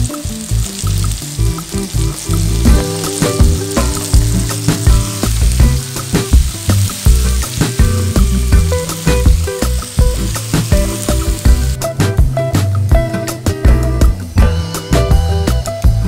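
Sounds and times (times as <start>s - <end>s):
background music with steady beat: 0.0s - 16.0s
vegetables sizzling in a frying pan: 0.0s - 16.0s.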